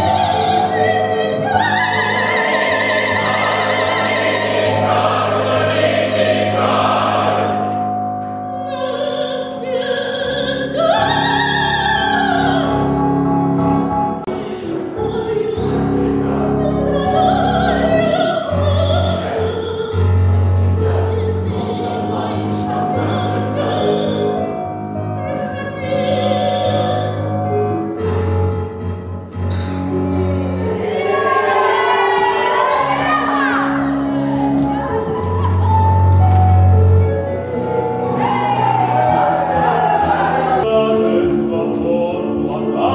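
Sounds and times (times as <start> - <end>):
choir: 0.0 - 8.0, 8.6 - 12.9, 13.8 - 28.2, 30.0 - 42.9
operatic singing with vibrato: 0.0 - 28.3, 29.9 - 42.9
instrumental accompaniment: 0.0 - 42.9.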